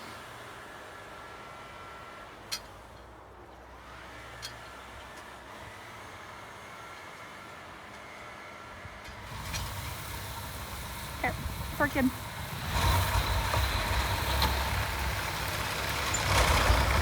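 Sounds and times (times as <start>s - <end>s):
tractor mechanical drone: 0.0s - 17.0s.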